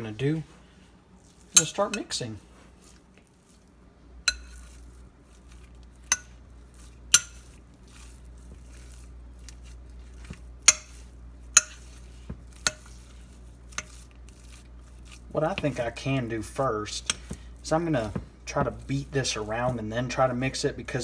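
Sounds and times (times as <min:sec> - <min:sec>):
low steady hum: 0:00.0 - 0:21.0
spoon mixing thick mixture: 0:01.2 - 0:21.0.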